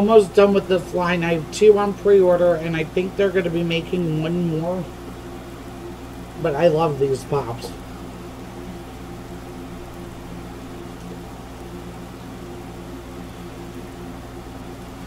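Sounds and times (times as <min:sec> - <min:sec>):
appliance hum and hiss: 0:00.0 - 0:15.0.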